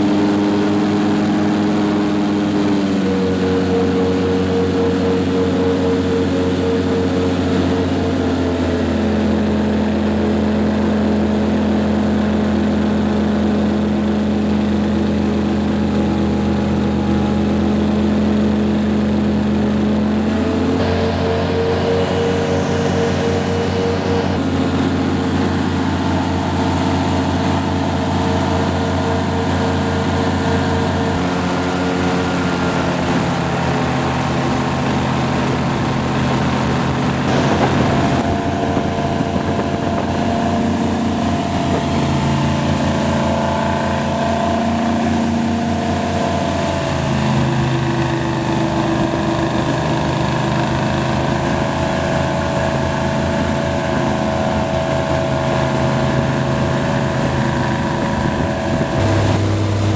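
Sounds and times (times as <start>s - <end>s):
airboat engine drone: 0.0s - 59.9s.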